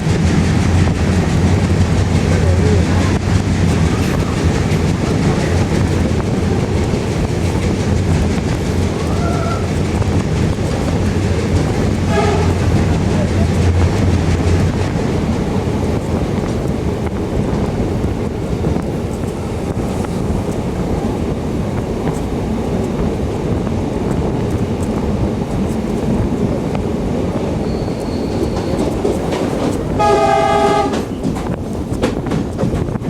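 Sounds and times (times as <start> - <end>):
passenger train rumbling on track: 0.0 - 33.0.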